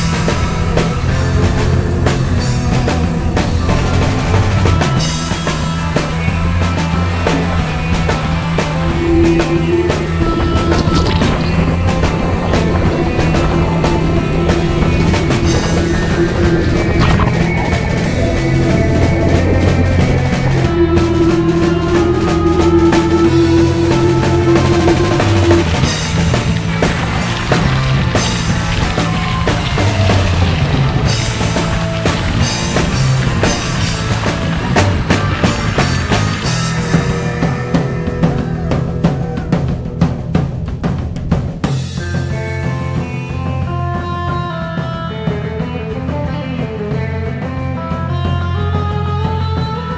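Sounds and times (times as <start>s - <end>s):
rock music with drums: 0.0s - 49.9s.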